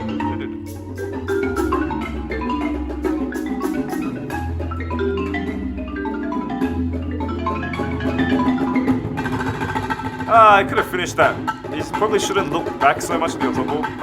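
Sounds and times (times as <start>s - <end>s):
marimba orchestra playing fast: 0.0s - 14.0s.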